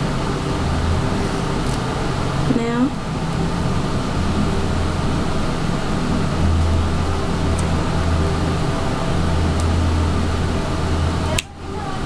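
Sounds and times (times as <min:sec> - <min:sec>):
fan humming and hissing: 0:00.0 - 0:12.0.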